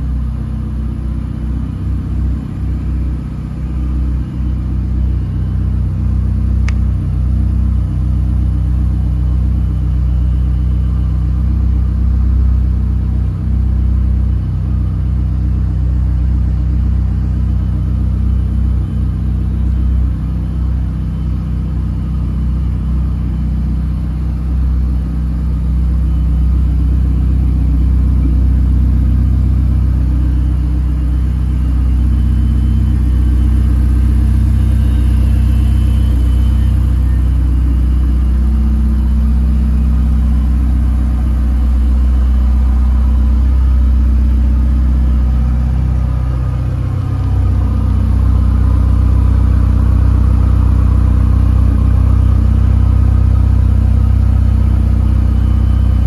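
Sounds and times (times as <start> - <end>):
car engine low rumble: 0.0 - 56.0.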